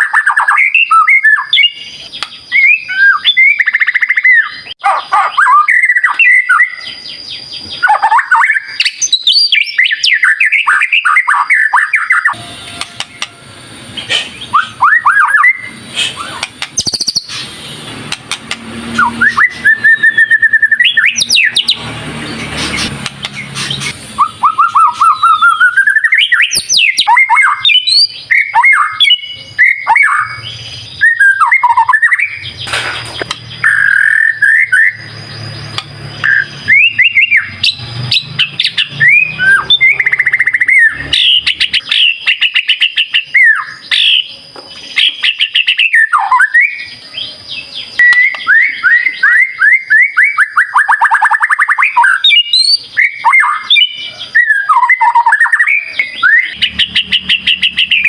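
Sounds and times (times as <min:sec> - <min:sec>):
bird singing whistles and trills: 0:00.0 - 0:13.4, 0:14.3 - 0:17.6, 0:18.2 - 0:58.0.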